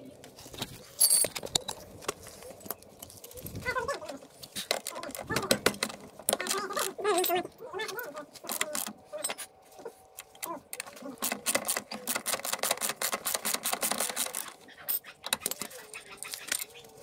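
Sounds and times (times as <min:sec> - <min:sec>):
metal tools clicking and rattling: 0:00.9 - 0:09.6, 0:10.2 - 0:17.0.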